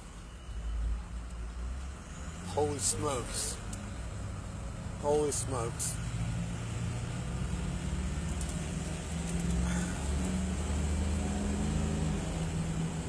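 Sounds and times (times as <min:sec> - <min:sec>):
traffic: 0:00.0 - 0:13.0
vehicle engine rumble: 0:00.0 - 0:13.0.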